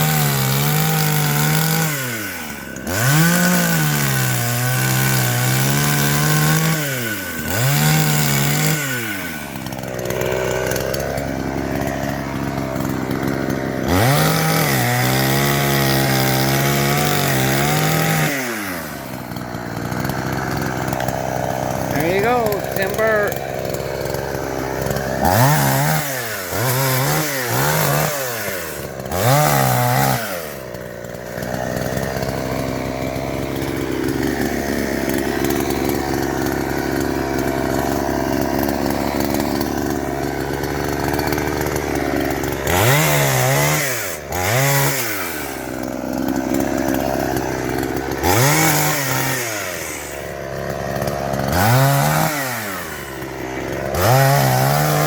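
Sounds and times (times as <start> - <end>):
chainsaw cutting wood: 0.0 - 55.0
chainsaw revving: 0.0 - 55.0.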